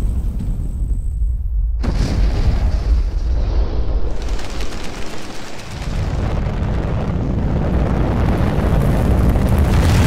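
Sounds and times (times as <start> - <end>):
fireball rumble and rushing: 1.9 - 10.0.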